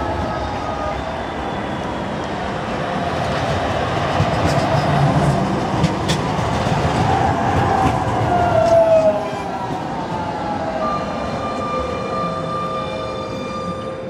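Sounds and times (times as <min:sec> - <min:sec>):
tram wheels rumbling on rail: 0:00.0 - 0:14.0
tram whine: 0:00.0 - 0:14.0.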